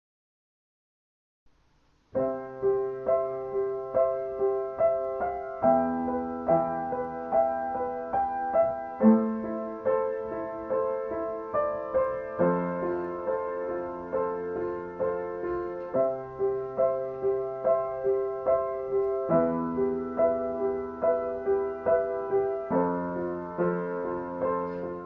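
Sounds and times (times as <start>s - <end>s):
piano music: 2.2s - 25.0s.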